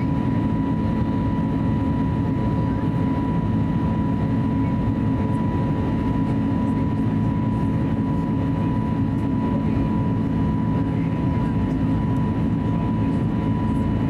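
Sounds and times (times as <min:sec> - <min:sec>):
airplane cabin rumble and whine: 0:00.0 - 0:14.0.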